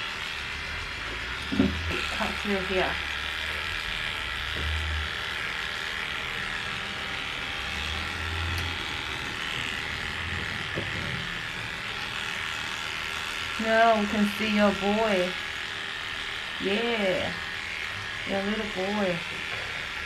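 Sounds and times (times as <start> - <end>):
electric clipper running: 0.0 - 20.0.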